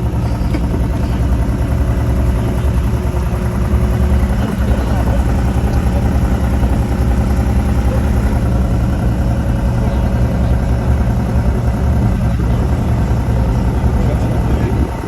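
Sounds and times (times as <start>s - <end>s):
car exhaust running loud: 0.0s - 15.0s.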